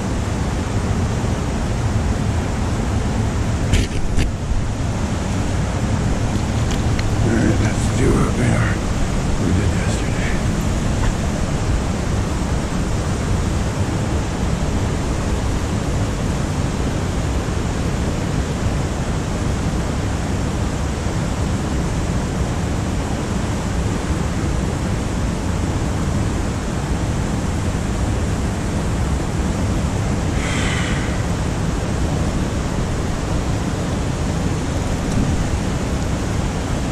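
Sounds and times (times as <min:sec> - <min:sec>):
river water rushing over rocks: 0:00.1 - 0:22.9, 0:27.1 - 0:36.9.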